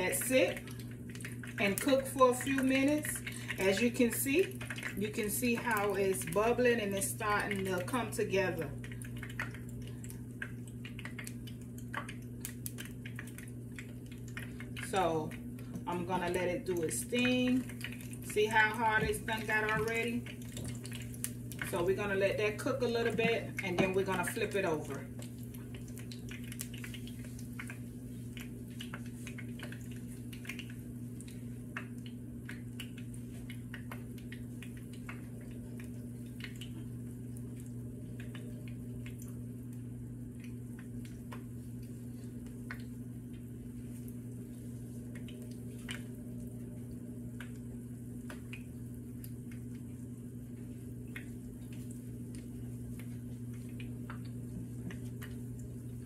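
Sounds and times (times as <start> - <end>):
oil popping and crackling: 0.0 - 56.0
steady low hum: 0.0 - 56.0.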